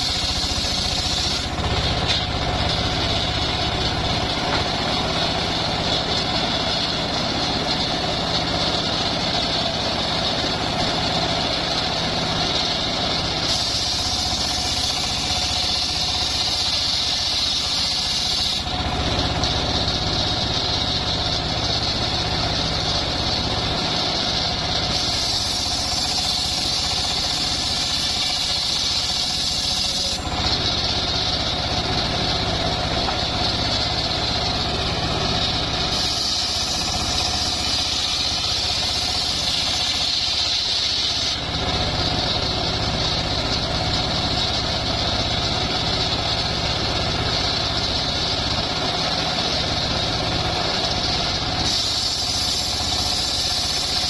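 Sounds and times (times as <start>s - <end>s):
saw blade whining through wood: 0.0s - 54.0s
sawmill drive running: 0.0s - 54.0s.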